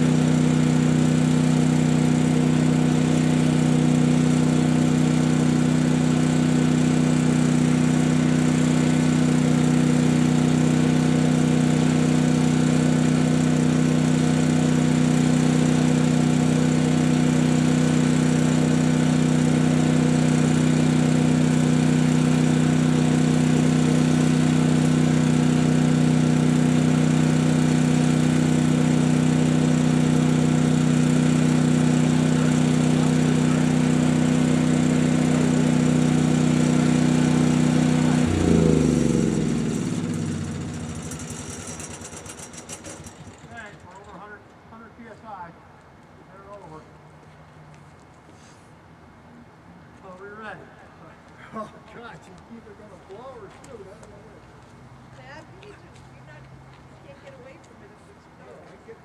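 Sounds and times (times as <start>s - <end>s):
generator and compressor hum: 0.0s - 59.0s.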